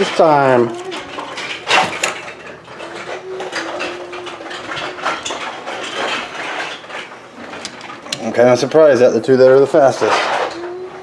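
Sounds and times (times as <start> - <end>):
toy cars and track pieces clattering: 0.0 - 11.0.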